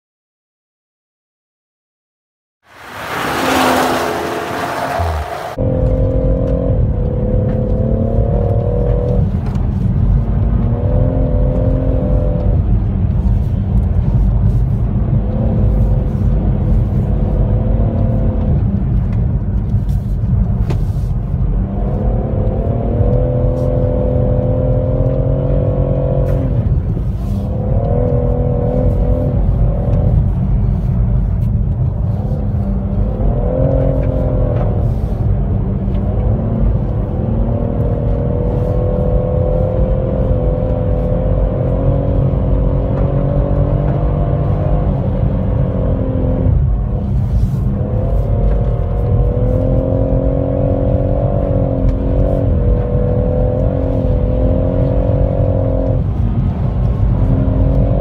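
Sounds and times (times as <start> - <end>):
car engine revving: 2.7 - 58.0.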